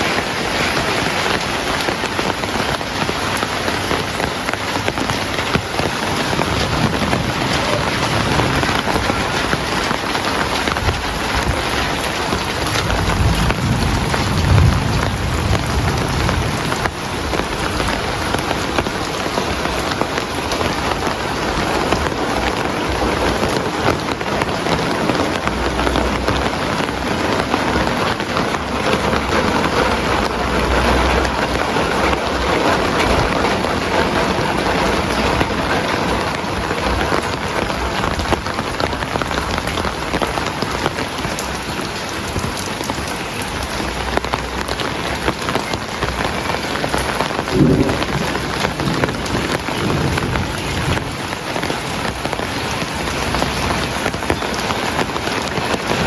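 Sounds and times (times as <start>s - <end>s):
heavy rain hissing: 0.0s - 56.0s
thunder rumbling: 0.0s - 56.0s.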